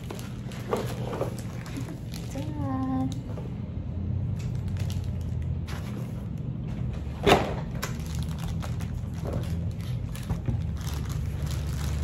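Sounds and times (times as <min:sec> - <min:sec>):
plastic wrapping rustling: 0:00.0 - 0:03.4, 0:04.4 - 0:07.0, 0:07.6 - 0:12.0.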